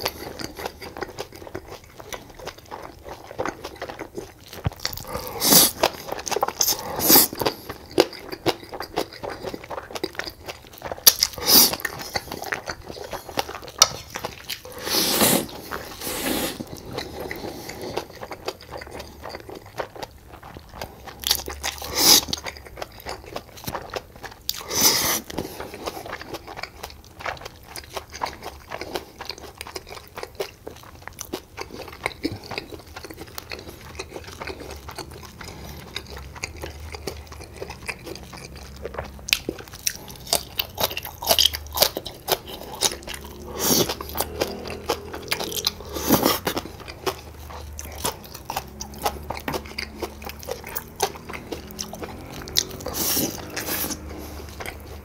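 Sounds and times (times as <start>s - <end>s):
person chewing and crunching food: 0.0s - 55.0s.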